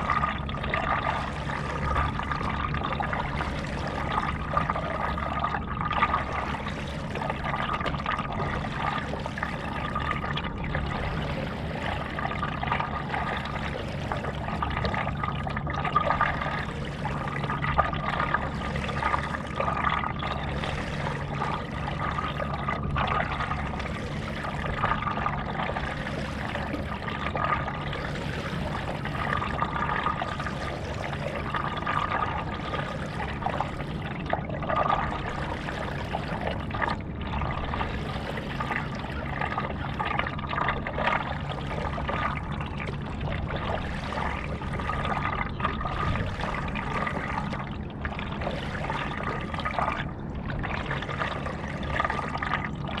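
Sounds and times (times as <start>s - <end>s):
faint steady hum: 0.0s - 53.0s
paddle strokes in water: 0.0s - 53.0s.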